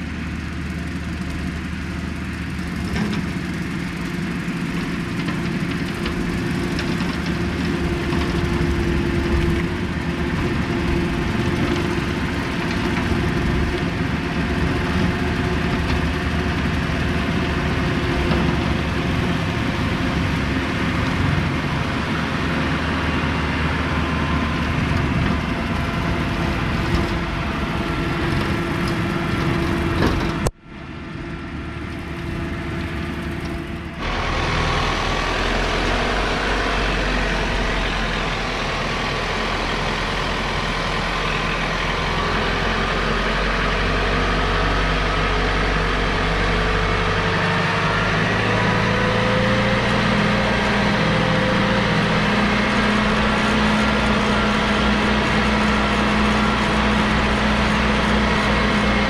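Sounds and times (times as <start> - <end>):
mower cutting grass: 0.0 - 59.0
tractor diesel engine running: 0.0 - 59.0
tractor engine idling: 0.0 - 59.0.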